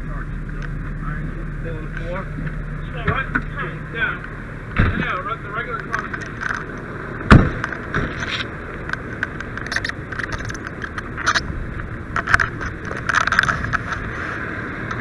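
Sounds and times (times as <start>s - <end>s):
diesel engine running: 0.0s - 15.0s
gear knocking and clanking: 1.9s - 15.0s.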